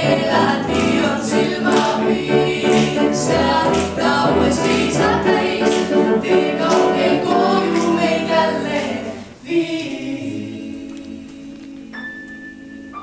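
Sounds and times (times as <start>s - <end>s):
vocal quartet singing a cappella: 0.0s - 12.8s.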